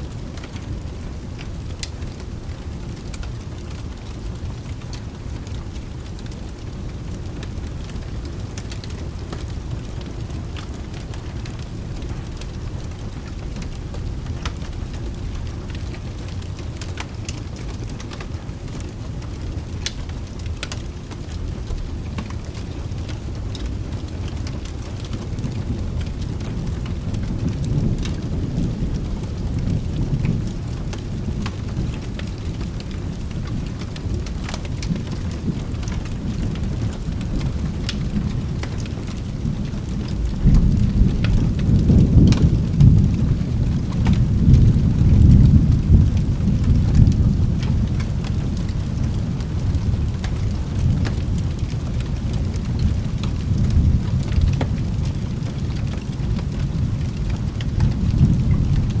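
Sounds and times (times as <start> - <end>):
steady rain: 0.0 - 59.0
thunder rumble: 0.0 - 59.0.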